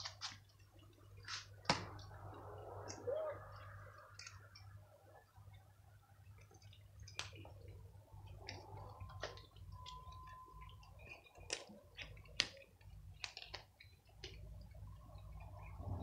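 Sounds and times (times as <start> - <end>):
cats crunching dry kibble: 0.0 - 16.0
low hum: 0.6 - 13.2, 13.8 - 16.0.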